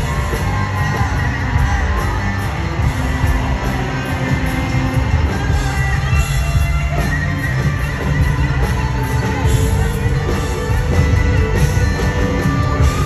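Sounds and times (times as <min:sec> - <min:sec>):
bass: 0:00.0 - 0:13.0
drums: 0:00.0 - 0:13.0
electric guitar: 0:00.0 - 0:13.0.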